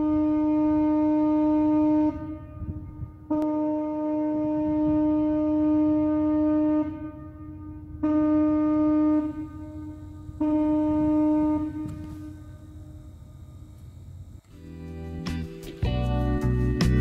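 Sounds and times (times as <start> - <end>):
horn blasts: 0.0 - 14.6.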